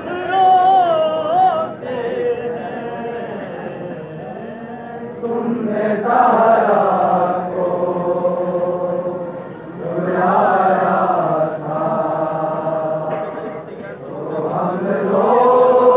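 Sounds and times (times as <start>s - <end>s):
men chanting a lament in unison: 0.0s - 9.2s, 9.8s - 15.9s.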